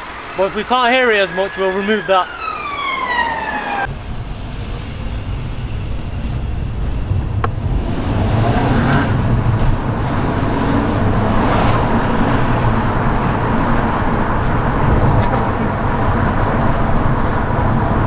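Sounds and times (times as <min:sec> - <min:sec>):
car engine while driving: 0:00.0 - 0:18.0
road noise: 0:00.0 - 0:18.0.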